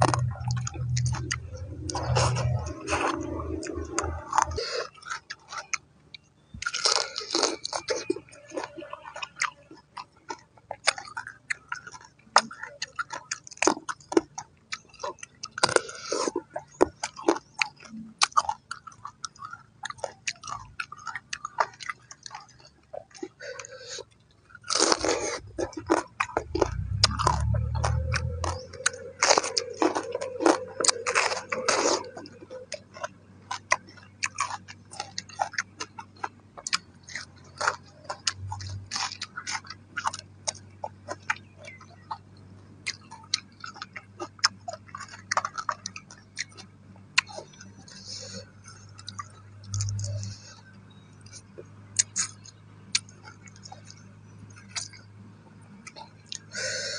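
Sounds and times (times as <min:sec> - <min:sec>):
person chewing crunchy crab: 0:00.0 - 0:56.9.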